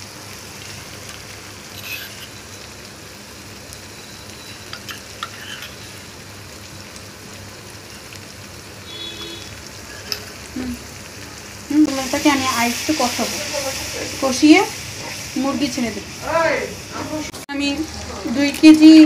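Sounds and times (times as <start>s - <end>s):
masala sizzling in oil: 0.0s - 19.0s.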